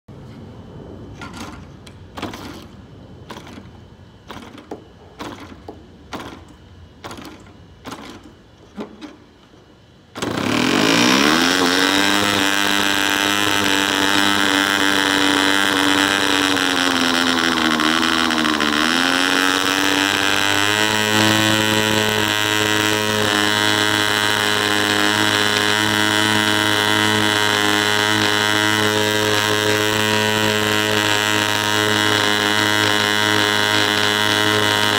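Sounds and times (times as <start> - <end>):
propeller being flicked: 1.1 - 34.9
model engine buzzing: 1.2 - 9.2, 10.1 - 34.9.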